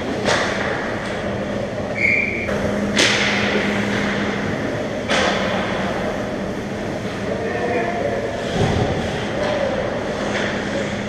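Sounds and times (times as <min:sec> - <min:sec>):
steady rink din: 0:02.0 - 0:11.0.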